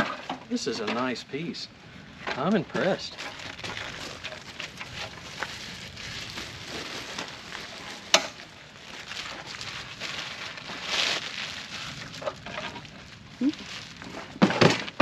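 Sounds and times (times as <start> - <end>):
packaging crackling and rustling: 2.4 - 15.0.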